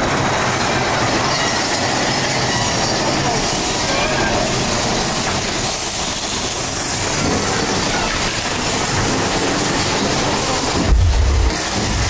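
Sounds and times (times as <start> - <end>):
roller coaster rumbling on rails: 0.0 - 12.0.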